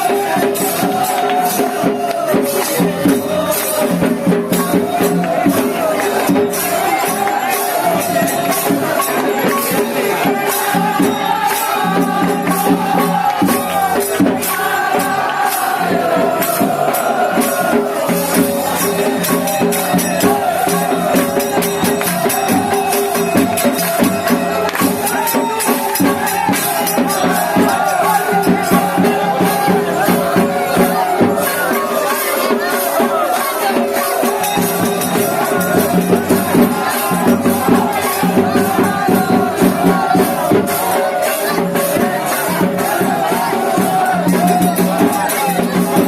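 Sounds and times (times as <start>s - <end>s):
metallic jingling percussion: 0.0s - 46.0s
voices chanting or singing: 0.0s - 46.0s.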